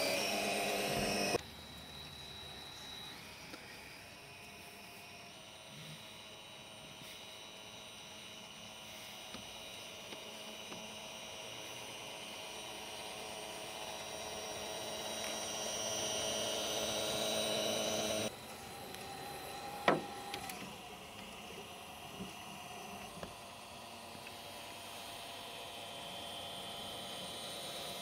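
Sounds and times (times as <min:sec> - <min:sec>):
model train motor whine: 0:00.0 - 0:28.0.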